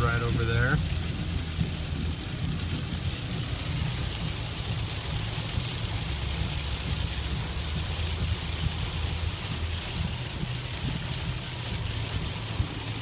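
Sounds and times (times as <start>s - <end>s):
car rumbling on road: 0.0s - 13.0s
heavy rain on a car: 0.0s - 13.0s.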